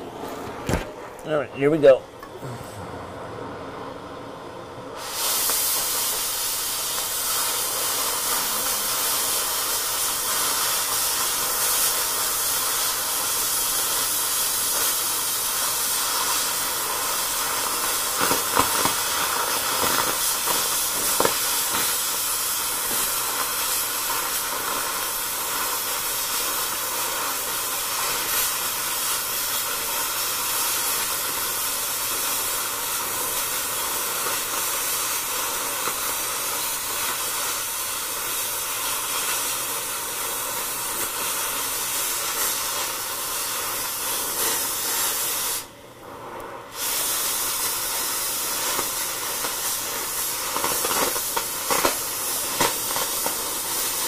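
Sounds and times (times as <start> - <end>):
cutting torch rushing hiss: 0.0 - 54.0
torch flame pops: 0.4 - 1.3, 5.0 - 54.0.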